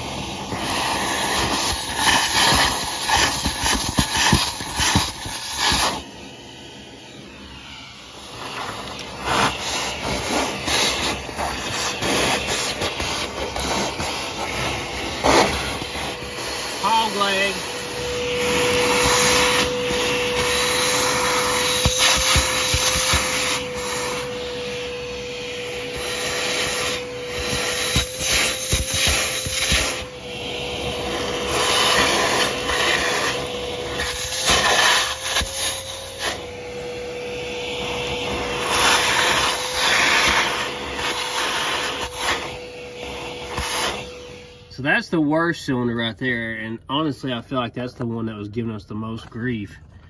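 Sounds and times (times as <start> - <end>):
shop vacuum running: 0.0 - 48.4.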